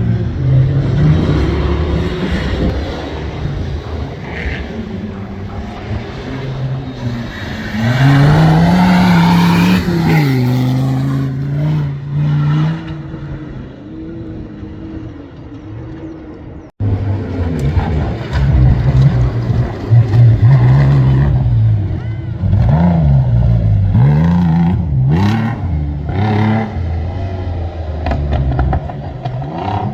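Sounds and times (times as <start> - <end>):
racing car engine revving: 0.0 - 29.9.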